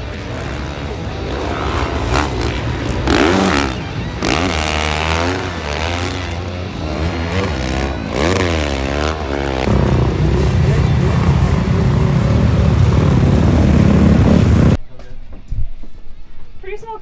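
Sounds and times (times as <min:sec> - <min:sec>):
racing snowmobile engines revving: 0:00.0 - 0:14.8.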